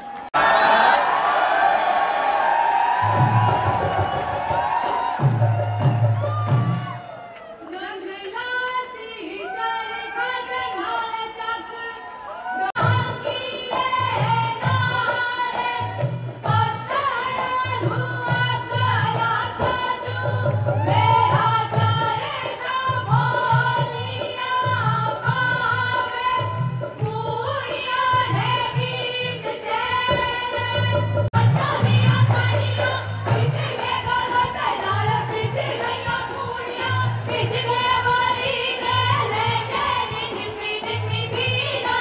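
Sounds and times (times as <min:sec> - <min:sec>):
drum beating: 0:02.8 - 0:07.4, 0:12.8 - 0:42.0
women singing folk song: 0:07.8 - 0:42.0.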